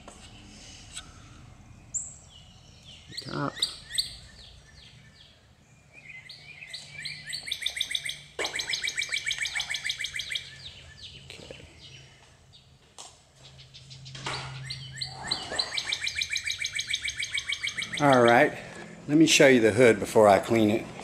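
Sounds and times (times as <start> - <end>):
faint low hum: 0.0 - 21.0
bird singing fast trills: 1.0 - 12.7, 13.4 - 19.2.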